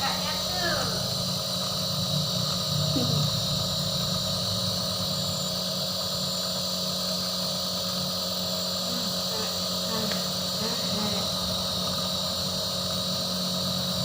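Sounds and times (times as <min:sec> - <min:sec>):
nebulizer compressor humming and hissing: 0:00.0 - 0:14.0.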